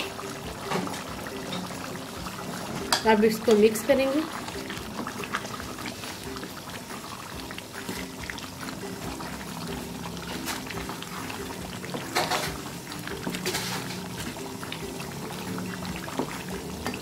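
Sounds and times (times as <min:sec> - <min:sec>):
soft background music: 0:00.0 - 0:17.0
spatula stirring gravy in pan: 0:00.0 - 0:17.0.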